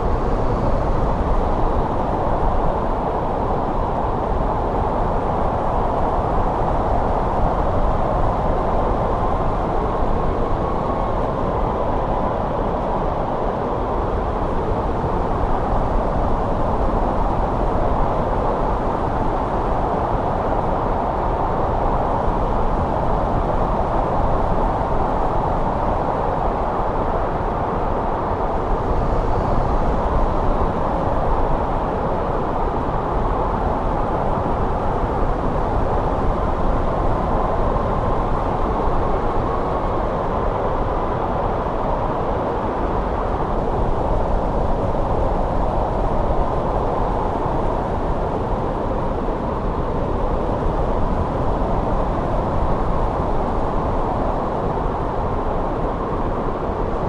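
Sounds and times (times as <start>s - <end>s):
snowstorm wind rushing: 0.0s - 57.0s.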